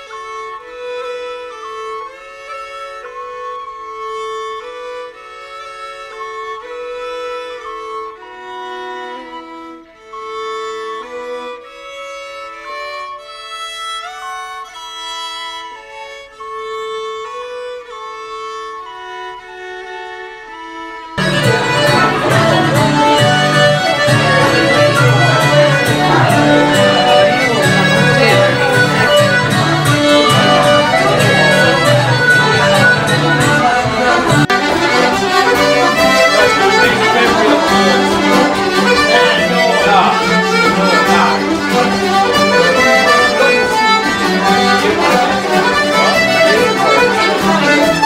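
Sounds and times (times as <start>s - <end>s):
crowd chatter: 0.0s - 48.0s
fiddles and guitar session: 0.0s - 48.0s
slow fiddle music: 0.0s - 48.0s.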